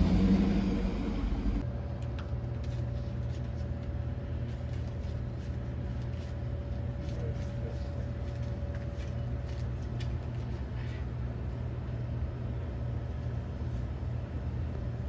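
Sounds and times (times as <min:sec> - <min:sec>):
low machinery hum: 0:00.0 - 0:15.0
traffic rumble: 0:00.0 - 0:15.0.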